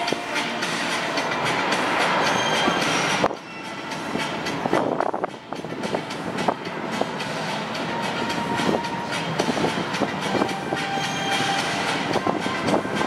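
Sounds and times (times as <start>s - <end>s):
jet engines whining and rumbling: 0.0s - 13.0s.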